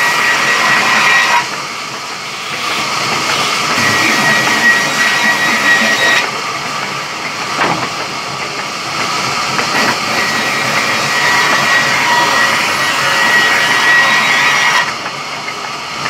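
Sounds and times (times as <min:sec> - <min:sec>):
sawmill saw running: 0:00.0 - 0:16.0.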